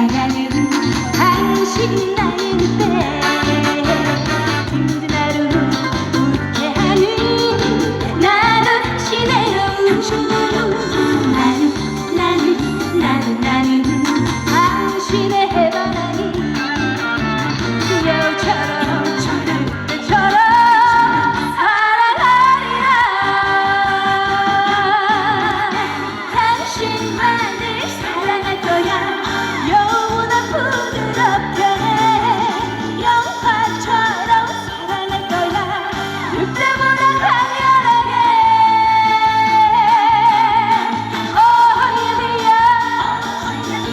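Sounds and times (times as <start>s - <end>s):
backing track with steady beat: 0.0s - 43.9s
woman singing: 0.0s - 43.9s.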